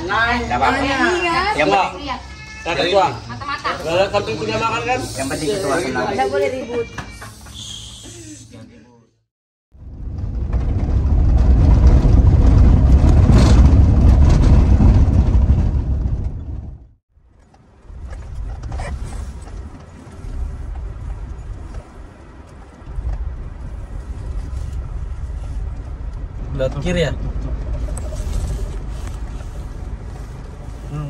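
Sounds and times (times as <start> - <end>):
vehicle engine rumbling: 0.0 - 8.6, 9.7 - 31.0.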